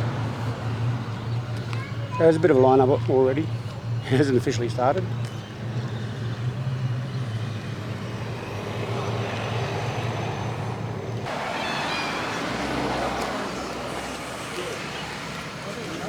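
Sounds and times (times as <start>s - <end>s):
car engines passing: 0.0s - 16.0s
road noise: 0.0s - 16.0s.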